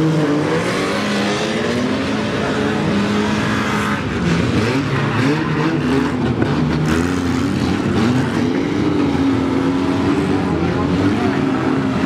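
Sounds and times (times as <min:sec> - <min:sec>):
car engines revving hard: 0:00.0 - 0:12.0.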